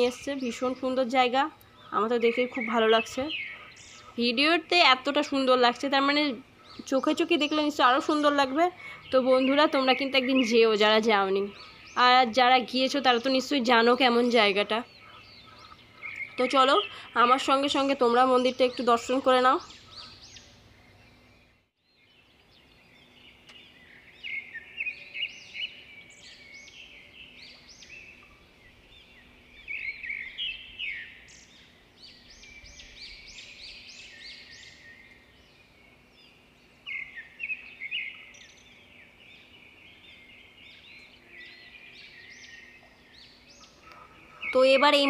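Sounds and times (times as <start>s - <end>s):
birds chirping and calling: 0.0s - 45.0s.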